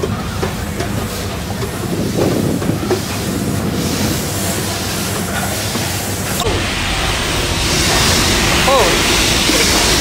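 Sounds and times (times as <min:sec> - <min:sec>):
steam engines rumbling: 0:00.0 - 0:10.0
wind: 0:00.0 - 0:10.0.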